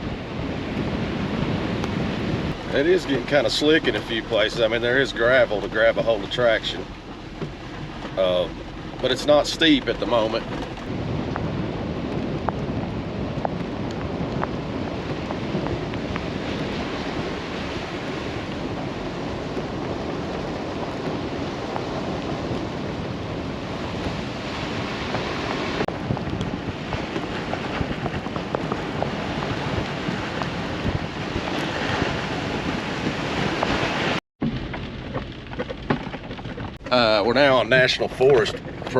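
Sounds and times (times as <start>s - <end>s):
tyres rumbling on gravel road: 0.0s - 38.9s
gravel ticks: 0.7s - 32.2s, 33.6s - 38.9s.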